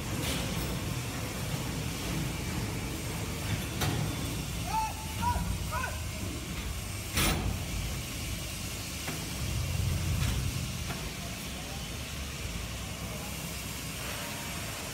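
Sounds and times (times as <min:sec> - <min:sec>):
diesel truck engine rumbling: 0:00.0 - 0:13.9.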